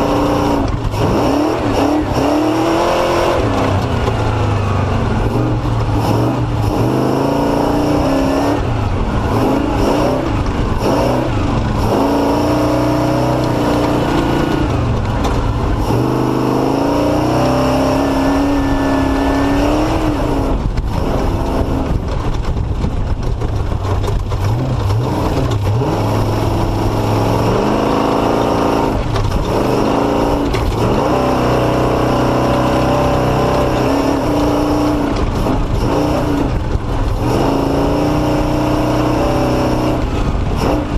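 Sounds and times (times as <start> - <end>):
off-road engine revving: 0.0 - 40.9.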